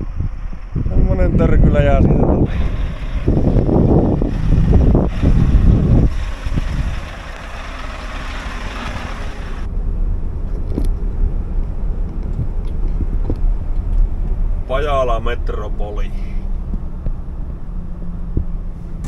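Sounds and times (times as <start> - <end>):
truck engine rumble: 0.0 - 19.0
wind and tyre noise: 0.0 - 19.0.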